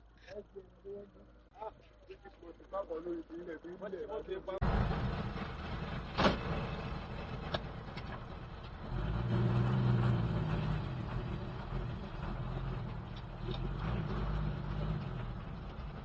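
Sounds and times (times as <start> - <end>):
truck engine drone: 0.0 - 16.0.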